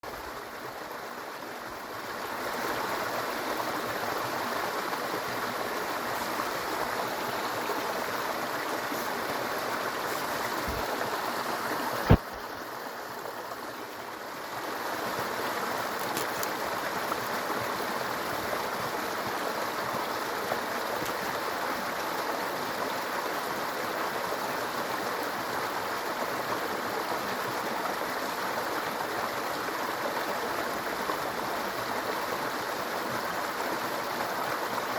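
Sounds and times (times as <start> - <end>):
brook babbling over stones: 0.0 - 34.9.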